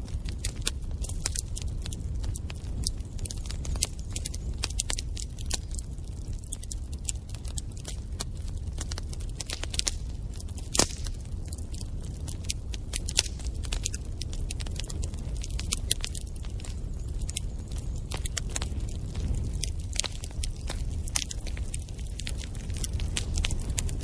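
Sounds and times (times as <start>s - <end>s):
low rumble of flames: 0.0s - 24.0s
wood fire crackling: 0.0s - 24.0s
sharp pops and snaps: 0.1s - 24.0s.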